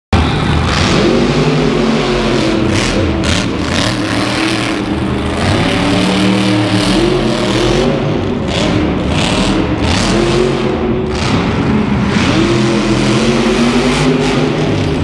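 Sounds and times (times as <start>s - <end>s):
truck engine revving: 0.2s - 15.0s.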